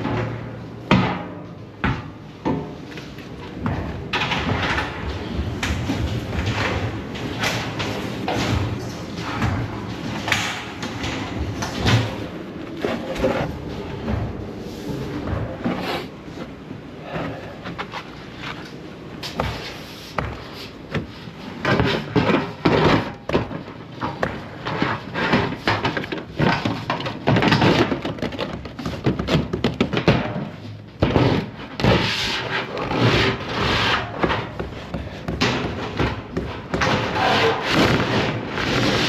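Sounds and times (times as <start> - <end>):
scraping and rubbing: 4.3 - 29.6, 31.0 - 39.0.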